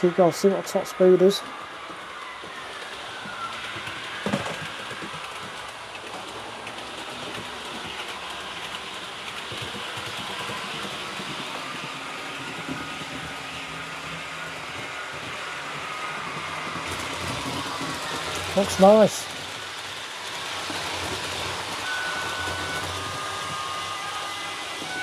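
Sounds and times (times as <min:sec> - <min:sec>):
faint motor whine: 0:00.0 - 0:25.0
model train running on track: 0:00.0 - 0:25.0.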